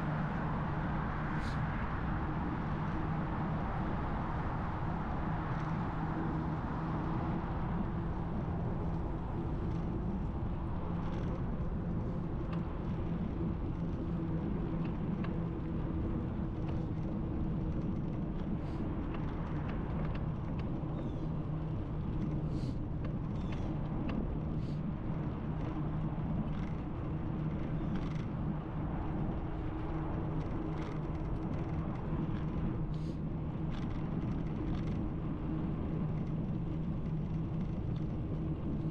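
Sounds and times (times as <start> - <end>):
constant low hum: 0.0 - 38.9
road rumble: 0.0 - 38.9.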